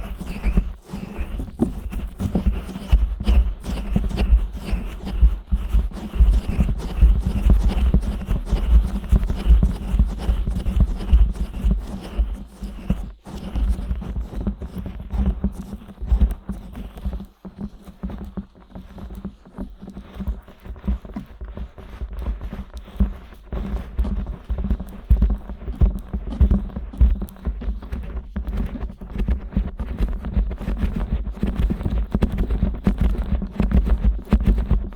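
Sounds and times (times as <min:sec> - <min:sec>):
fingers rubbing microphone: 0:00.0 - 0:34.9.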